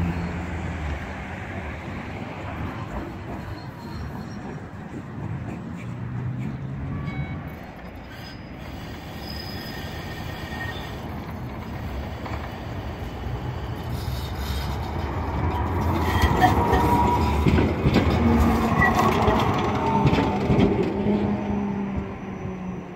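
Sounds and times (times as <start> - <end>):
tram rumbling past: 0.0 - 22.9
tram wheels squealing: 0.0 - 22.9.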